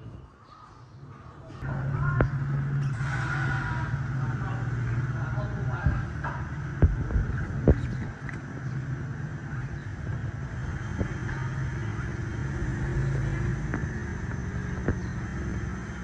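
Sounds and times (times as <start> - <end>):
low rumble: 1.6 - 16.0.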